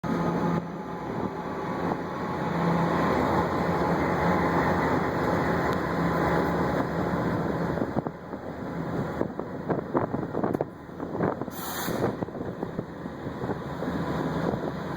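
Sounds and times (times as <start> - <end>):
train rolling past: 0.0 - 14.9.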